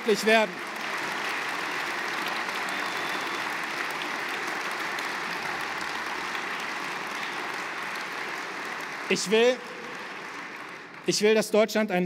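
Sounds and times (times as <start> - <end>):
large audience applauding: 0.0 - 11.6.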